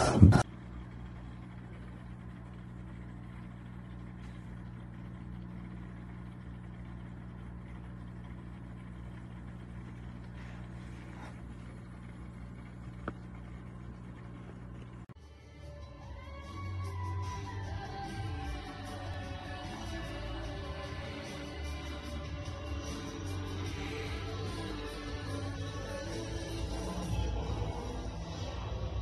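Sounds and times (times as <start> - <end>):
machine humming: 0.0 - 29.0.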